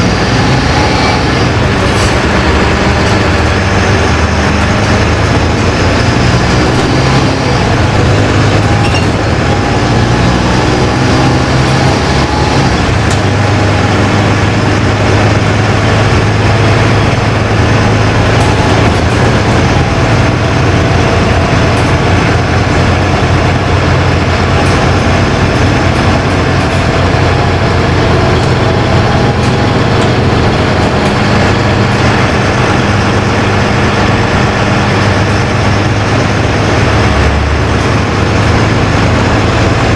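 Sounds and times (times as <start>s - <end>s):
bus diesel engine hum: 0.0s - 39.9s
road and body noise: 0.0s - 39.9s.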